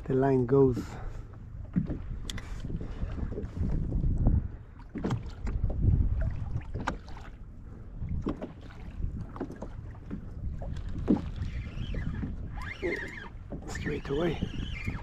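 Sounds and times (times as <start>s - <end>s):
water slapping kayak hull: 0.0s - 15.0s
wind buffeting microphone: 0.0s - 15.0s.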